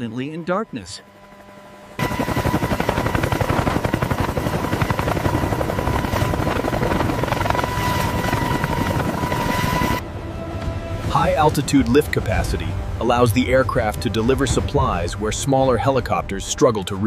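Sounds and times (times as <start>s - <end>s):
helicopter rotor chop: 0.0s - 10.0s, 11.1s - 17.0s
turbine whine: 0.0s - 17.0s.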